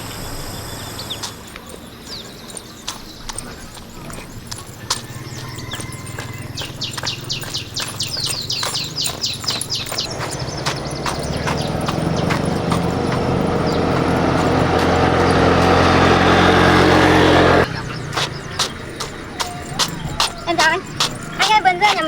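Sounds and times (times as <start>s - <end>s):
high falling chirps: 0.0s - 17.7s
motor droning: 0.0s - 21.4s.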